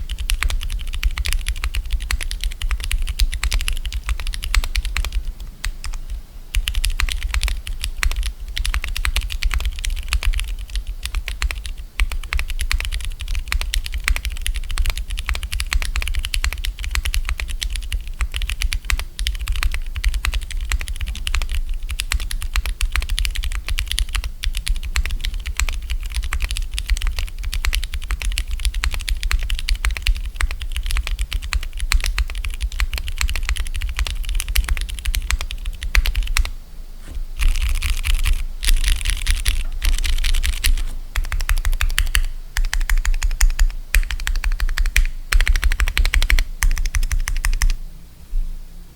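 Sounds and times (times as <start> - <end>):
fast typing on mechanical keyboard: 0.0 - 36.5, 37.4 - 47.8.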